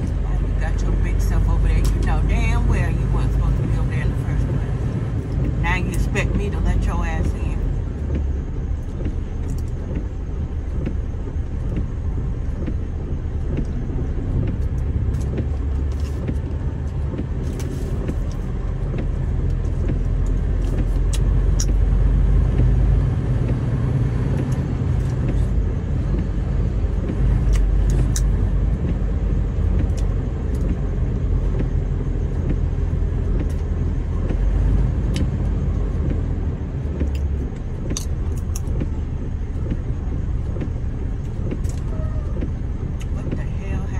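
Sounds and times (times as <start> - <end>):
road rumble: 0.0 - 43.9
truck engine running: 0.0 - 43.9.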